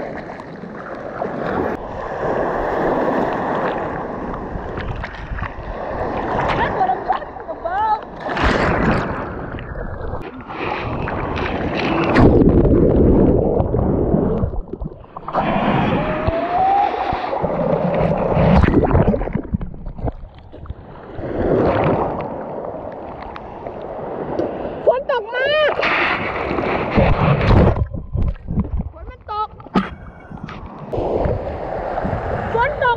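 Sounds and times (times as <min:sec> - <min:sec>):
surf churning and splashing: 0:00.0 - 0:32.9.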